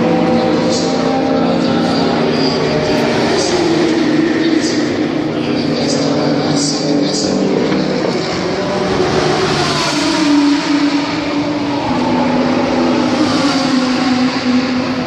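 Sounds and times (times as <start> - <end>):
race car engine idling: 0.0 - 15.0.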